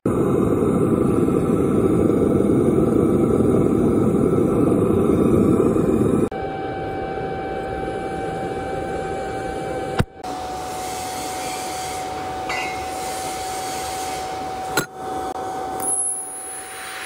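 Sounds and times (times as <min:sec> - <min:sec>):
machine rushing hum: 0:00.1 - 0:17.0
thin high whine: 0:00.1 - 0:17.0.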